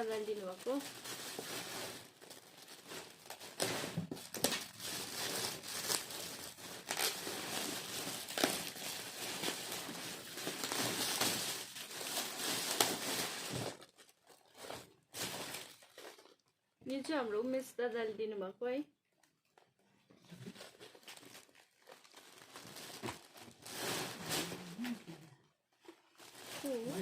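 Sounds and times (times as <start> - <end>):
gift wrapping tearing and crumpling: 0.0 - 16.6, 20.2 - 27.0.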